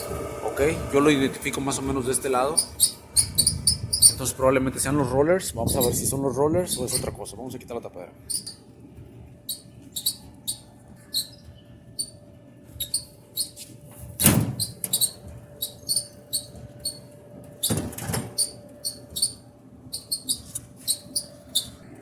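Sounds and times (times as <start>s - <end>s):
dryer drum squeaking: 0.0s - 7.4s, 8.2s - 22.0s
faint steady hum: 0.0s - 22.0s.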